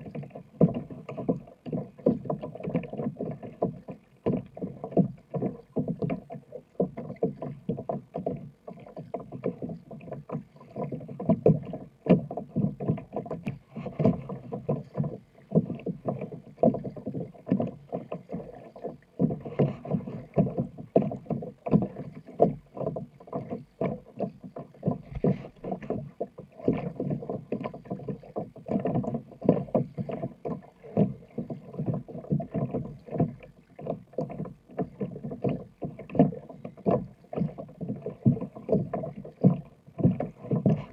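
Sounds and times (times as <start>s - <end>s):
paddle dipping in water: 0.0s - 40.9s
water slapping plastic hull: 0.0s - 40.9s.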